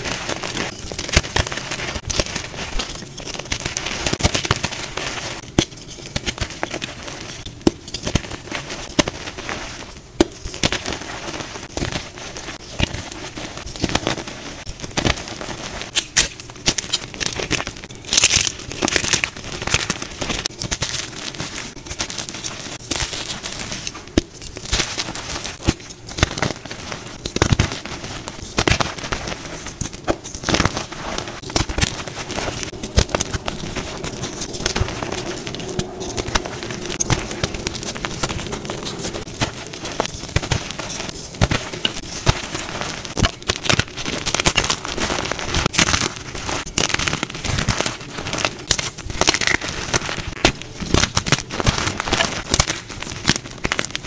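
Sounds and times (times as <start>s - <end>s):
chalk blocks crunching in hands: 0.0s - 54.0s.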